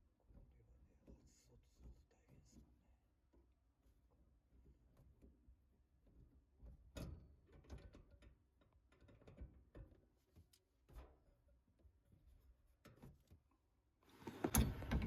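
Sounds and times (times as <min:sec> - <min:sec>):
faint clicks and knocks: 0:00.1 - 0:15.0.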